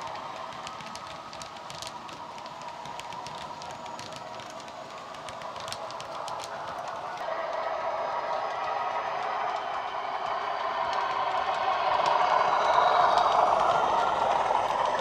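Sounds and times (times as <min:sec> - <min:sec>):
clicks from model coach wheels: 0:00.0 - 0:15.0.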